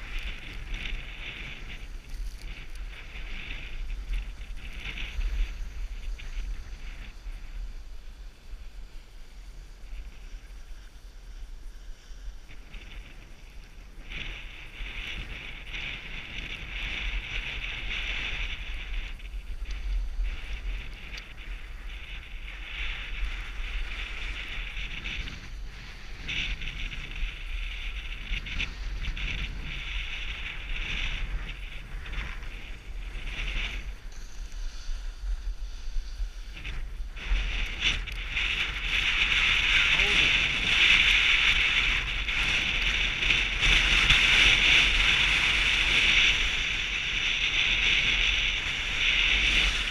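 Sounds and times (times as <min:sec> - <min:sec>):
skis scraping over snow: 0:00.0 - 0:49.9
wind rumble on microphone: 0:00.0 - 0:49.9.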